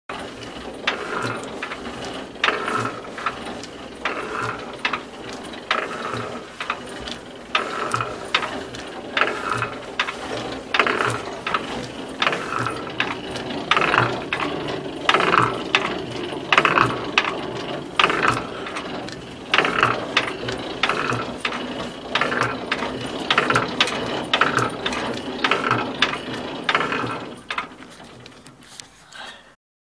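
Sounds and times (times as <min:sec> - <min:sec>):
diesel engine running: 0:00.1 - 0:28.3
metallic clacking: 0:00.1 - 0:28.8.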